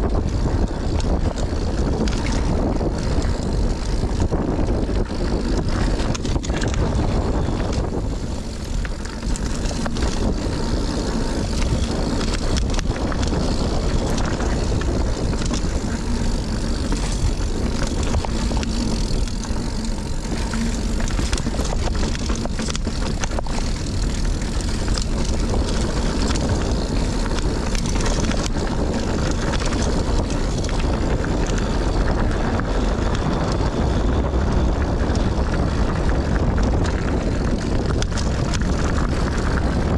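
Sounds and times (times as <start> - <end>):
bike rattling: 0.0 - 39.9
bike tyre noise on dirt: 0.0 - 39.9
wind on camera microphone: 0.0 - 39.9.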